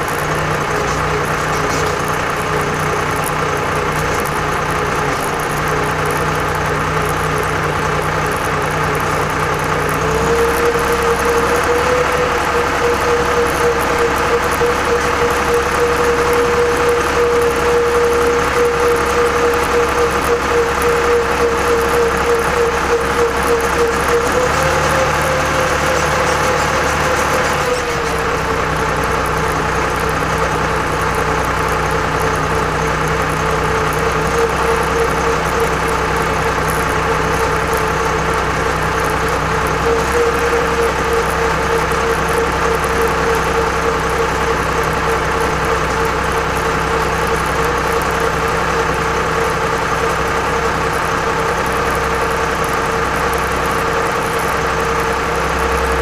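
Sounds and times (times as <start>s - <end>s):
held whine: 0.0s - 56.0s
tractor diesel engine running: 0.0s - 56.0s.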